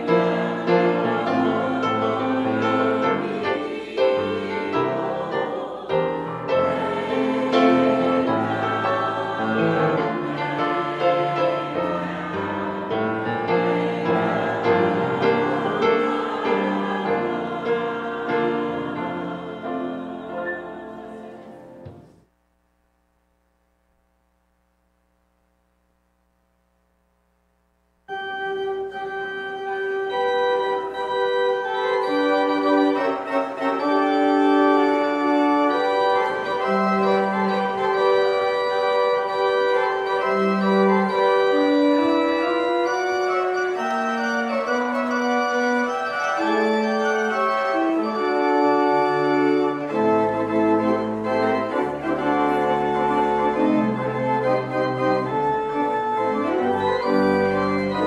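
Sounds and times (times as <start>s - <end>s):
organ music: 0.0s - 22.2s, 28.1s - 58.0s.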